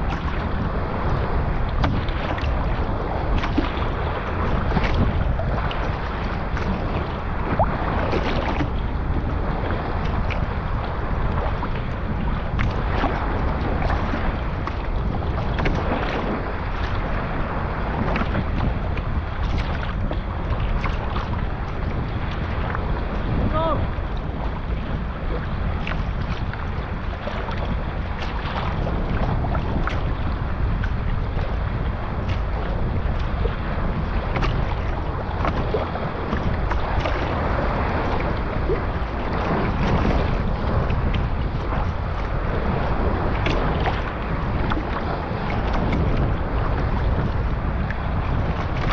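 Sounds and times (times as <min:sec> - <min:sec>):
water splashing around kayak: 0:00.0 - 0:48.9
wind buffeting microphone: 0:00.0 - 0:48.9.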